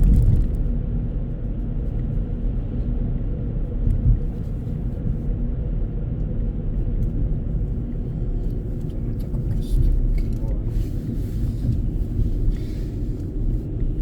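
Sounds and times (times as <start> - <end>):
road and engine noise in car: 0.0 - 14.0.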